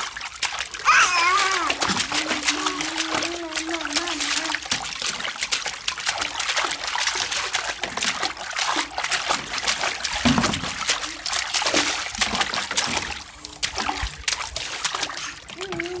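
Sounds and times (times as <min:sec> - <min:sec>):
bath water splashing: 0:00.0 - 0:16.0.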